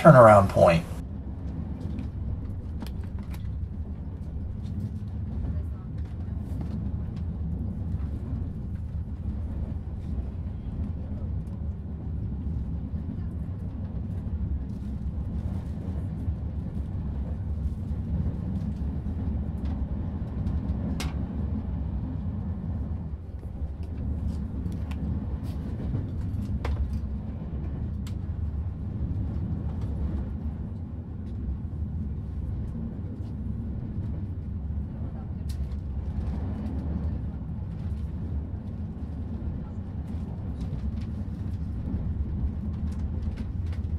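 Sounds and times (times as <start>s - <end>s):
wheels rumbling on rails: 0.0s - 43.9s.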